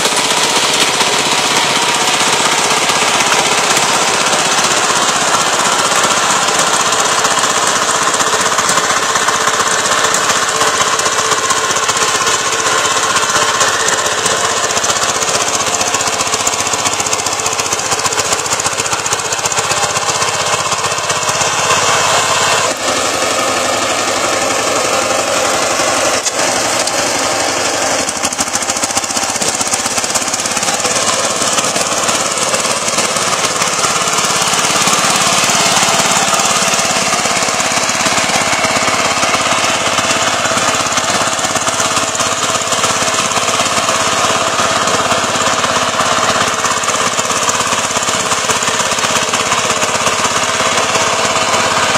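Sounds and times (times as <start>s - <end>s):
diesel tiller engine knocking: 0.0s - 51.9s.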